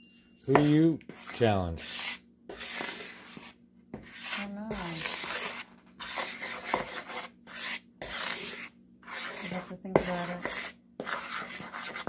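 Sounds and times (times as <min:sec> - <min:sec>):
utensil stirring dry flour: 0:00.5 - 0:12.0.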